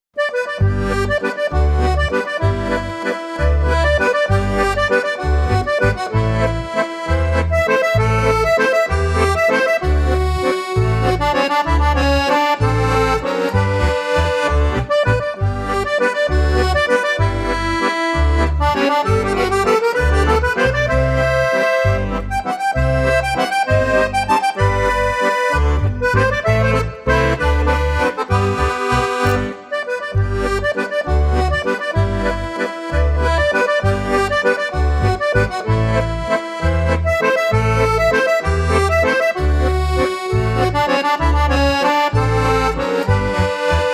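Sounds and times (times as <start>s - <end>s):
accordion lead: 0.0s - 43.9s
steady bass beat: 0.6s - 43.9s.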